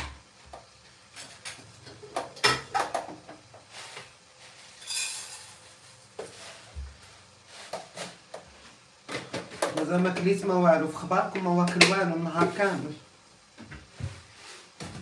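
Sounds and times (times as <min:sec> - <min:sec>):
pouring hiss: 0:01.2 - 0:15.0.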